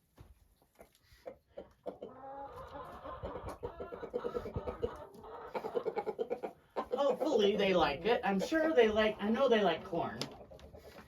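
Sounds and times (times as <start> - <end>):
chickens clucking: 0.1 - 11.0.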